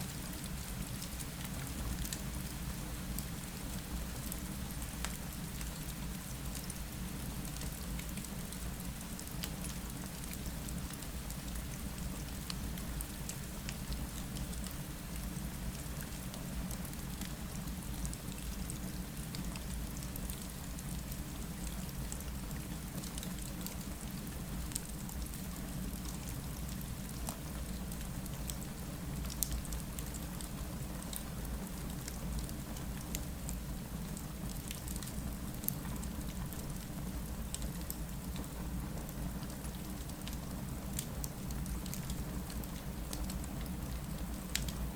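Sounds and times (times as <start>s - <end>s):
rain against a window: 0.0s - 44.9s.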